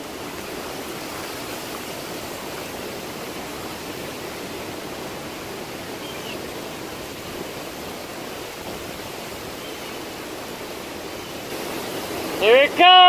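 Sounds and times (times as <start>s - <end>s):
strong wind through trees: 0.0s - 13.0s.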